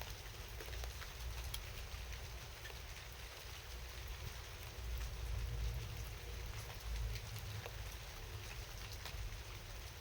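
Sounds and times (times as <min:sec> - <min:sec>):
rain pattering on a car: 0:00.0 - 0:10.0.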